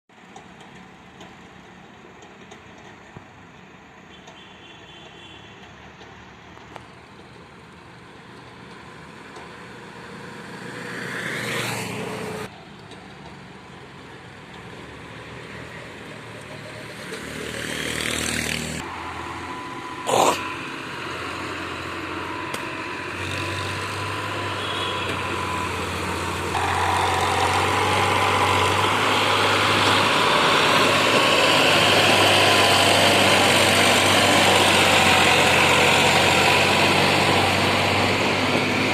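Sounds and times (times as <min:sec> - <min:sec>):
tractor diesel engine under load: 0:05.7 - 0:38.9.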